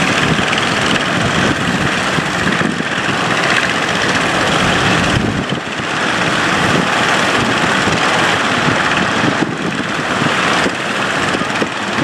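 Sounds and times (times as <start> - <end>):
boat engine running: 0.0 - 12.0
loud rushing noise: 0.0 - 12.0.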